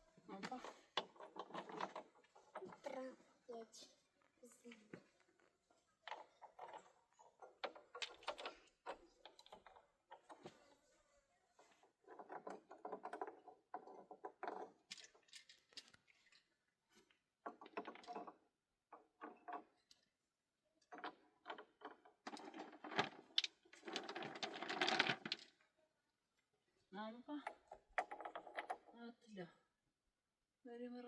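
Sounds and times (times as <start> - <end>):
objects clattering and rustling: 0.0 - 20.2, 20.8 - 25.7, 27.4 - 29.0.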